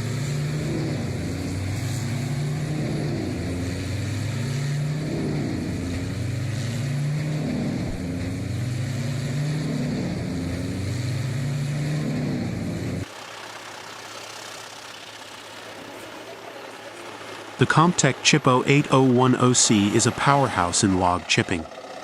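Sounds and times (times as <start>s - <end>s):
wood chipper engine running: 0.0s - 22.0s.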